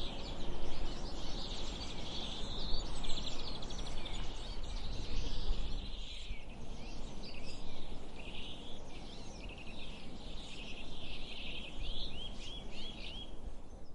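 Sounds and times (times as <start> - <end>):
birds chirping and singing: 0.0 - 13.9.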